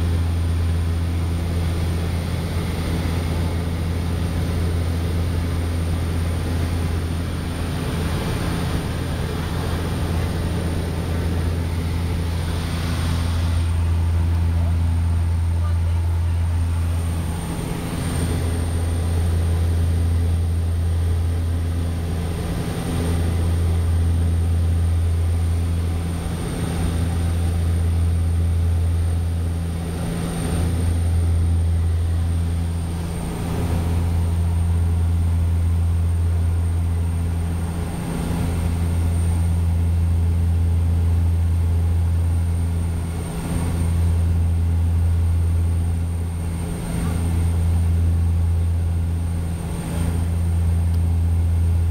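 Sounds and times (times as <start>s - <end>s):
propeller engine drone: 0.0s - 51.9s.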